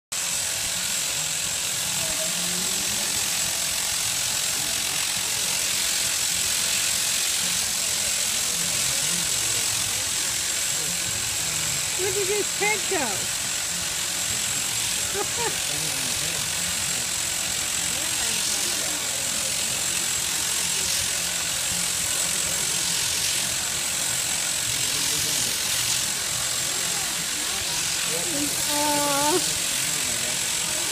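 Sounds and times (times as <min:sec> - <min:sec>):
electric shears buzzing: 0:00.1 - 0:30.9.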